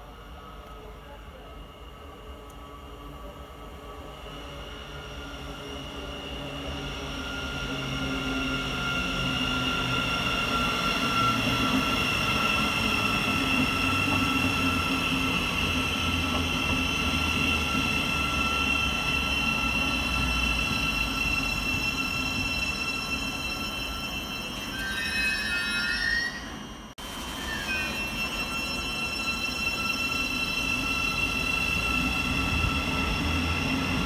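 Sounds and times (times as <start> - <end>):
train whine: 0.0 - 34.0.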